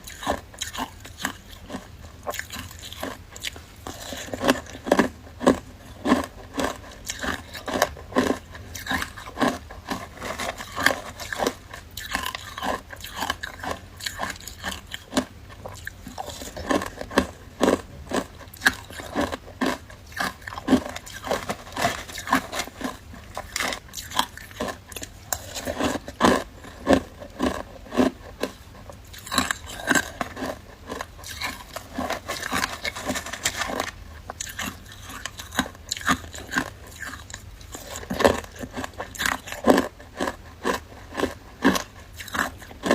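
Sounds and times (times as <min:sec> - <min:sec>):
person chewing crunchy ice: 0:00.0 - 0:42.9.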